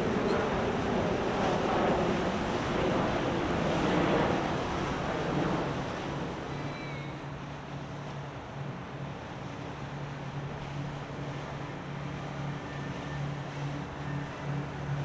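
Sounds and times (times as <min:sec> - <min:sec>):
low boat engine hum: 0:00.0 - 0:15.0
water rushing along boat hull: 0:00.0 - 0:15.0.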